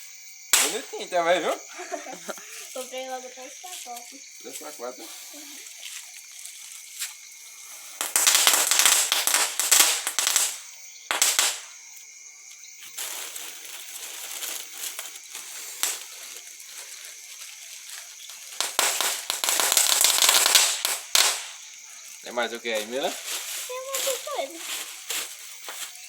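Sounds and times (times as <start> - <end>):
fireworks crackling: 0.0 - 6.2, 7.0 - 12.2, 12.8 - 26.0
fizzing hiss: 0.0 - 12.1, 12.9 - 26.0.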